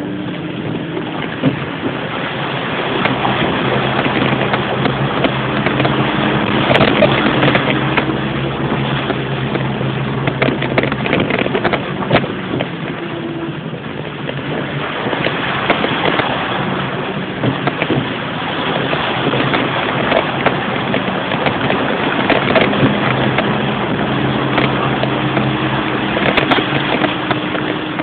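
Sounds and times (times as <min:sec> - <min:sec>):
car engine humming: 0:00.0 - 0:28.0
rain and water rushing: 0:00.0 - 0:28.0.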